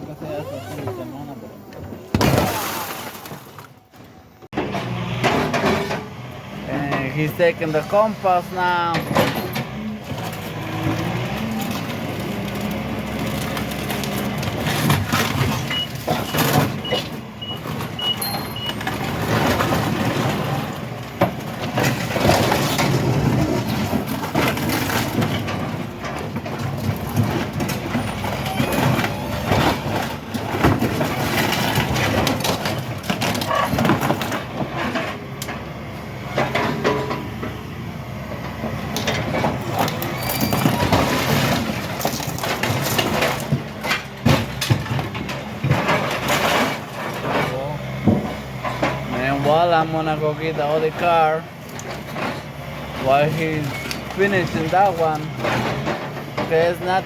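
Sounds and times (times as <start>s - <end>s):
car body crunching and banging: 1.8s - 6.1s, 7.4s - 37.8s, 38.4s - 49.8s, 50.5s - 57.0s
heavy machine running: 4.1s - 57.0s.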